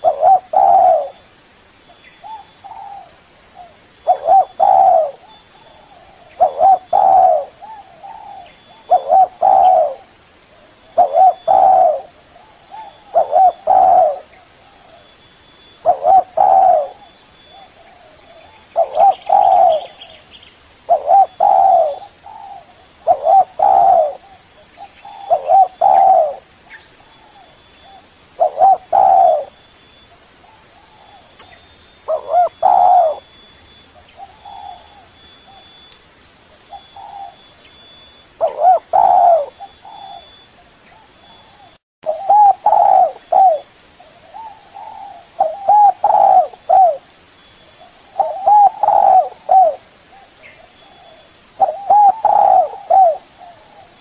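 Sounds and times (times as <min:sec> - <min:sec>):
dove cooing: 0:00.0 - 0:01.2, 0:02.2 - 0:15.1, 0:15.8 - 0:20.2, 0:20.8 - 0:29.6, 0:30.4 - 0:35.8, 0:36.6 - 0:37.5, 0:38.4 - 0:47.1, 0:47.8 - 0:54.0.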